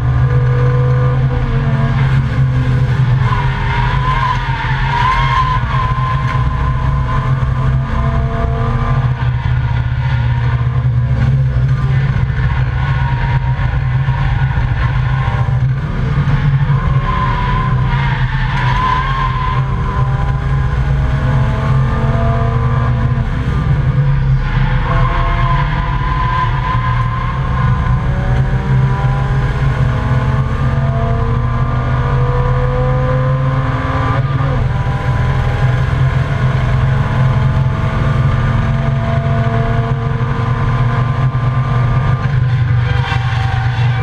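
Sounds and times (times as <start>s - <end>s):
race car engine accelerating: 0.0s - 44.0s
road and cabin drone: 0.0s - 44.0s.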